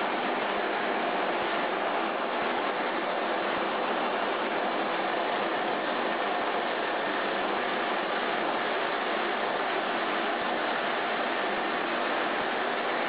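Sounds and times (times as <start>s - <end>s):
machinery running with steady rushing: 0.0s - 13.0s.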